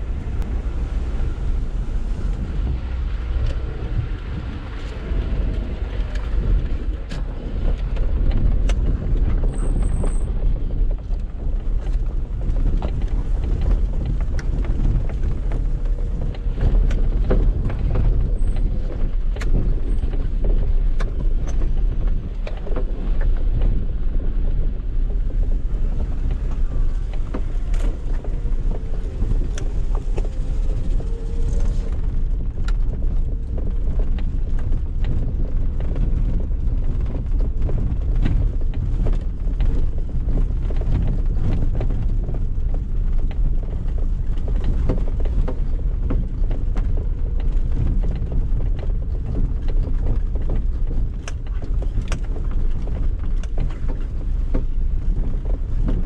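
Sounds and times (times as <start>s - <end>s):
car engine and tyre rumble: 0.0s - 56.0s
car knocks and rattles: 0.0s - 56.0s.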